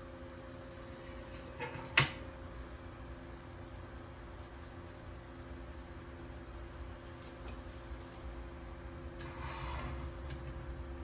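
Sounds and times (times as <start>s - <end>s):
low hum of held tones: 0.0s - 11.0s.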